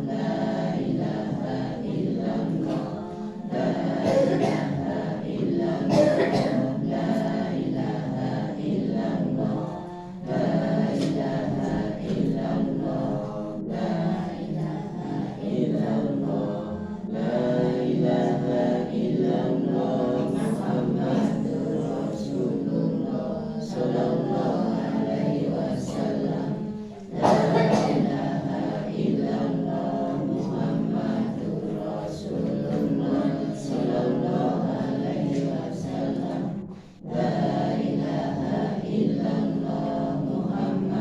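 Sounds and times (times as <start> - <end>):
congregation chanting in unison: 0.0 - 41.0.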